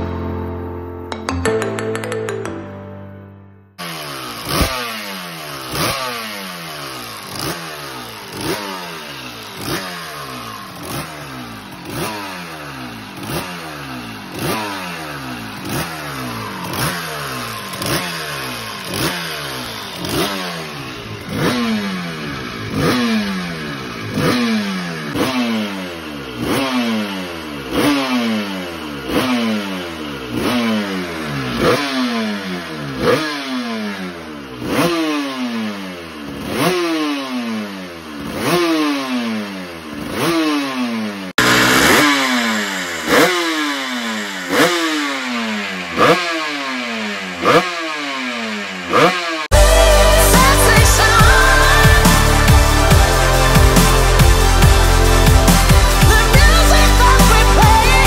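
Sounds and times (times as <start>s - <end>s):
two-stroke engine throttle blips: 3.8s - 58.0s.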